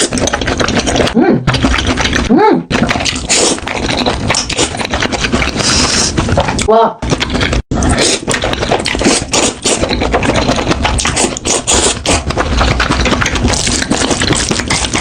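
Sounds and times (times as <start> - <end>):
slurping and chewing noodles: 0.0 - 15.0.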